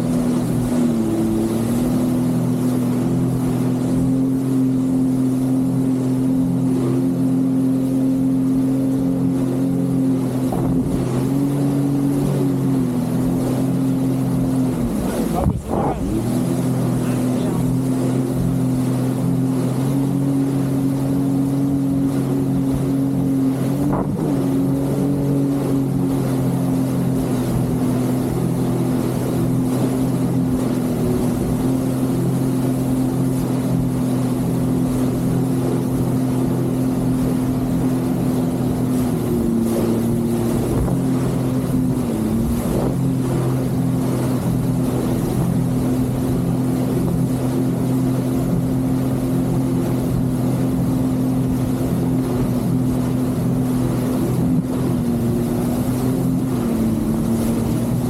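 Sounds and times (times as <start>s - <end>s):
jet ski engine running: 0.0s - 58.0s.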